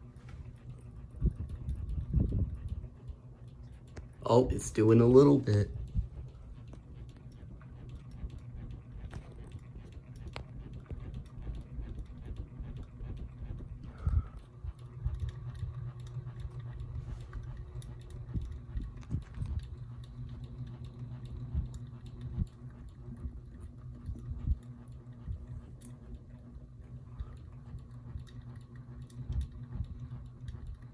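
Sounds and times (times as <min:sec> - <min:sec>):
ceiling fan humming: 0:00.0 - 0:30.9
fan ticking and knocking: 0:00.0 - 0:30.9.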